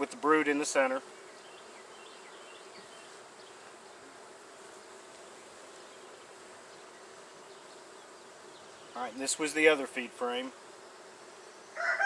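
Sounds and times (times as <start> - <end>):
bees humming: 0.0 - 12.0.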